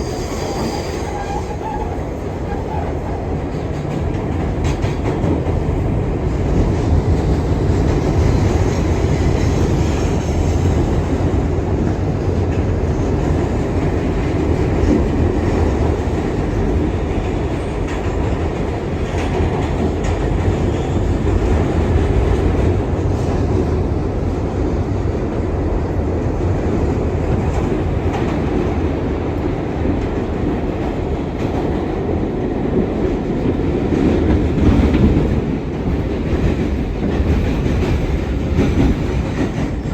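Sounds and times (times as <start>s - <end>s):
clickety-clack over rail joints: 0.0s - 39.9s
subway wheels rumbling on rail: 0.0s - 39.9s.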